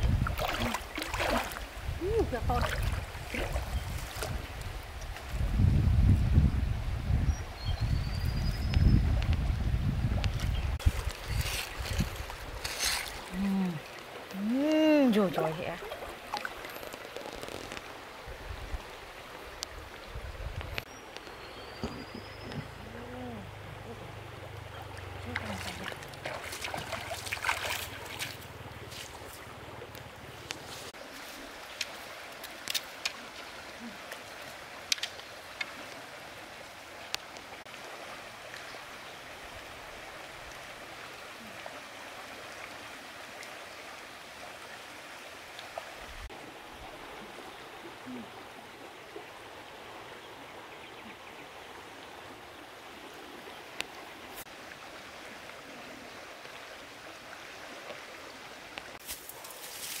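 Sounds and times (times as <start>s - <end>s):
river water rushing: 0.0s - 5.5s, 10.7s - 60.0s.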